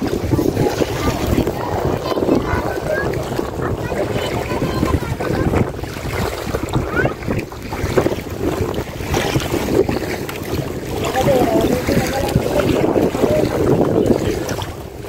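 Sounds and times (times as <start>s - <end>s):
water slapping against boat: 0.0s - 15.0s
wind buffeting microphone: 0.0s - 15.0s.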